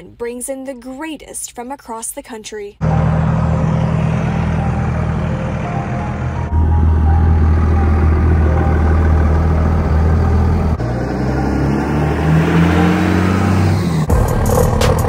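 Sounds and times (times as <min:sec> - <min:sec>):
vehicle engine revving: 0:02.8 - 0:15.0.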